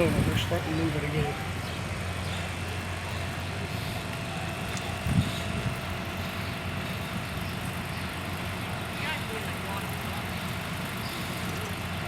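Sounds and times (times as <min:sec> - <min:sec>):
machinery engine running: 0:00.0 - 0:12.0.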